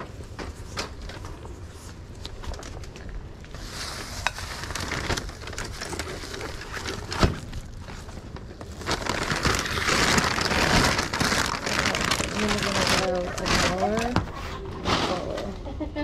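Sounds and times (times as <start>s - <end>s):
plastic bags rustling: 0.1s - 15.5s.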